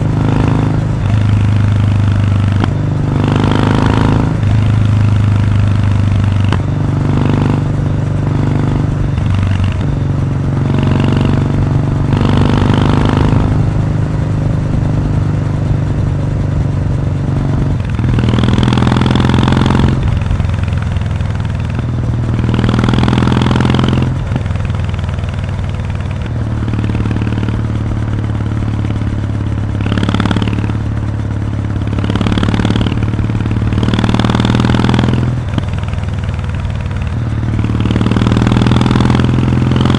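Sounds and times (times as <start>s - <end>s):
motorcycle engine loud exhaust: 0.0s - 39.9s.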